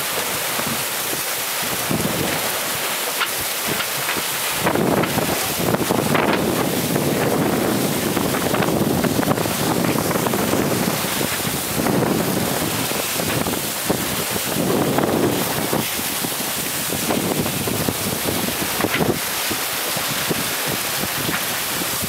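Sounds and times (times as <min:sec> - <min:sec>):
water splashing along hulls: 0:00.0 - 0:22.0
wind buffeting microphone: 0:00.0 - 0:22.0.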